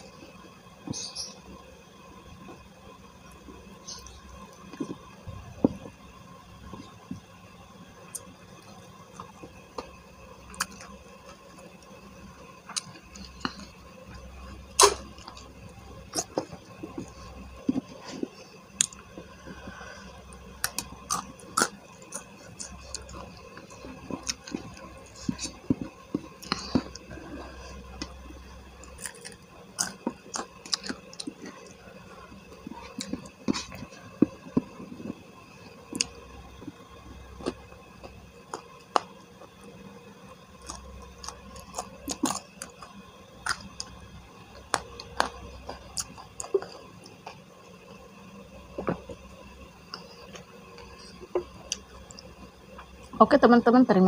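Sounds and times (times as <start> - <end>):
chewing with crackles: 2.4 - 7.3, 8.0 - 53.2.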